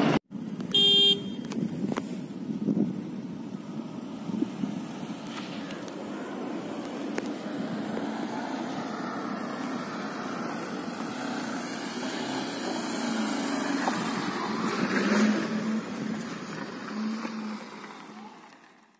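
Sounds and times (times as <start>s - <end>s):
car engine hum: 0.0s - 18.9s
tyres on gravel: 3.2s - 18.9s.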